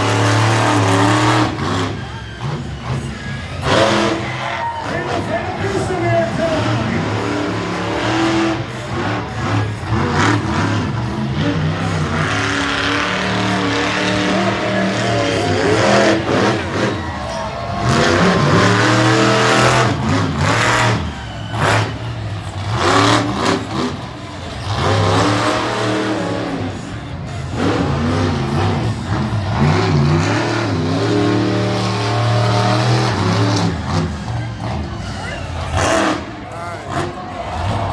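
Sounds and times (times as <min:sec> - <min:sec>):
monster truck engine revving: 0:00.0 - 0:37.9.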